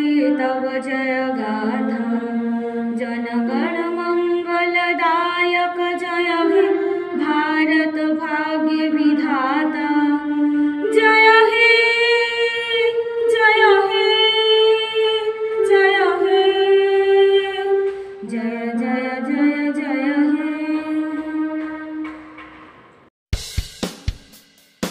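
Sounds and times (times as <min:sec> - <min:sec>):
woman singing with vibrato: 0:00.0 - 0:22.1.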